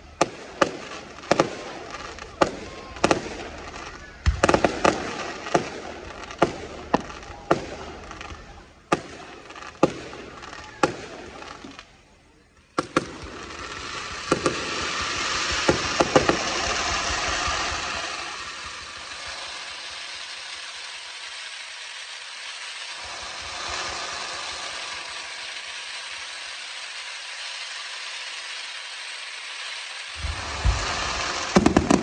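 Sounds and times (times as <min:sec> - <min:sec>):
fireworks bangs: 0:00.0 - 0:32.0
fireworks hiss: 0:00.0 - 0:32.0.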